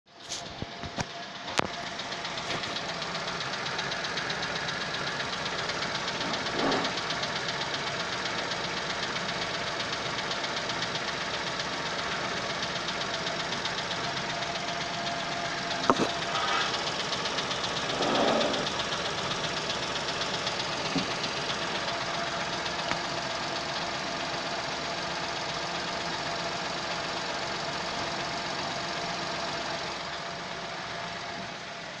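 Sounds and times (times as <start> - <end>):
car engine running with rattling: 0.1 - 32.0.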